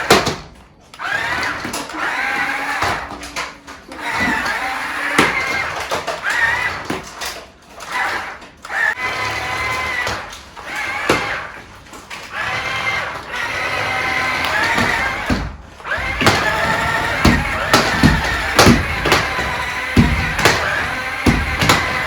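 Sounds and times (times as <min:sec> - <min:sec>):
toy car motor whirring: 0:00.9 - 0:22.0.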